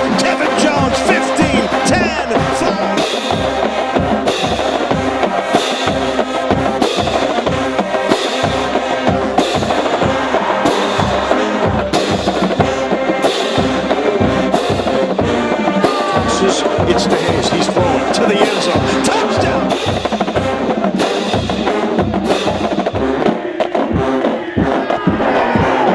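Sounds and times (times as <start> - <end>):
brass chords: 0.0 - 25.9
snare drum: 0.0 - 25.9.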